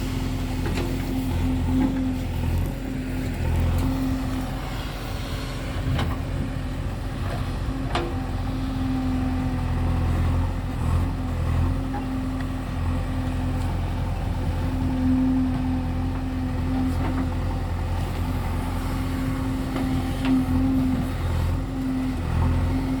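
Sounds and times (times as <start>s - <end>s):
diesel engines running: 0.0s - 23.0s.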